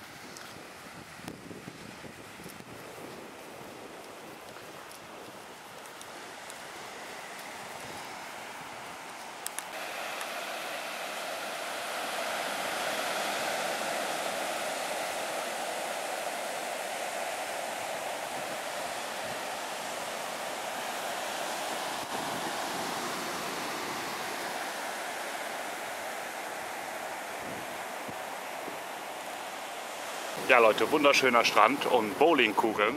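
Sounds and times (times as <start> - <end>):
ocean waves breaking: 1.9 - 32.9.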